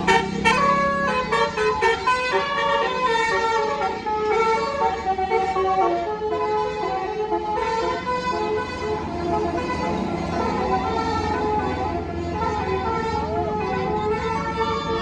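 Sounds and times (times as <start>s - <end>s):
low bus engine rumble: 0.0s - 15.0s
multi-tone bus horn tune: 0.0s - 15.0s.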